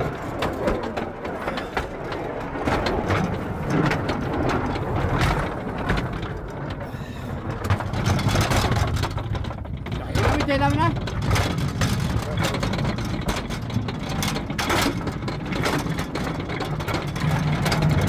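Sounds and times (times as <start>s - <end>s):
rattles and knocks: 0.0s - 18.0s
vehicle engine rumbling: 0.0s - 18.0s.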